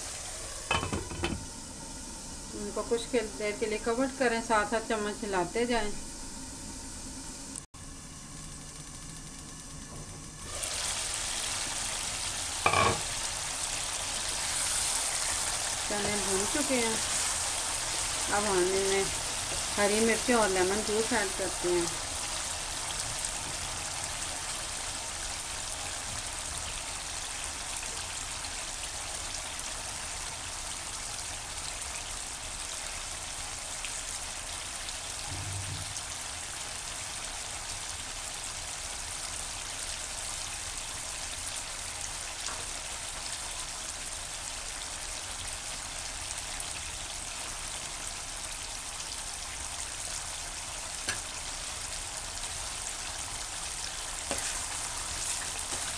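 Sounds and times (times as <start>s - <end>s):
chickpeas sizzling in oil: 7.0s - 55.9s.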